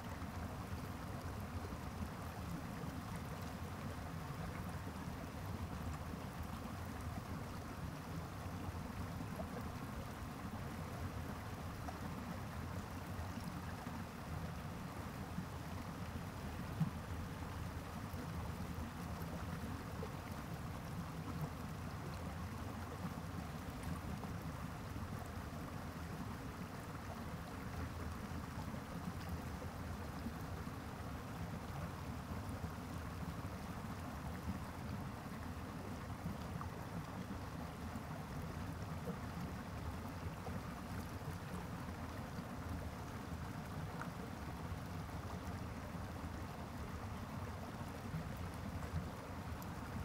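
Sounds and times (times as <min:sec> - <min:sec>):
stream running over rocks: 0:00.0 - 0:50.0.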